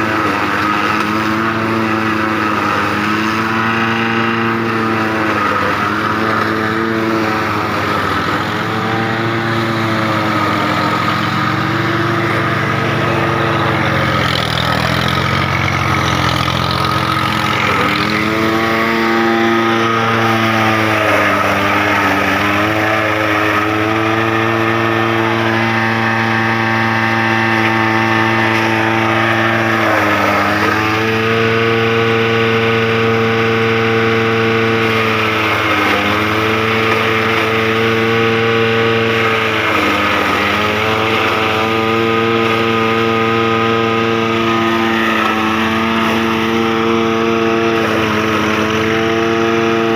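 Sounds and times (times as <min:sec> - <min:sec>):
silage chopper engine hum: 0:00.0 - 0:49.9.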